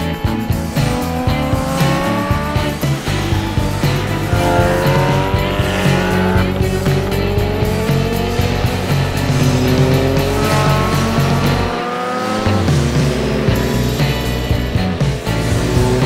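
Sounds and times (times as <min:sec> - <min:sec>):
background music: 0:00.0 - 0:16.0
motorcycles riding past: 0:00.7 - 0:16.0.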